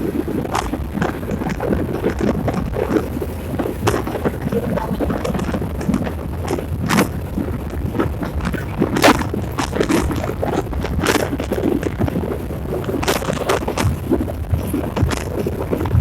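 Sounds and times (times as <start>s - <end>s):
vehicle rumbling on rough road: 0.0s - 16.0s
wind buffeting microphone: 0.0s - 16.0s.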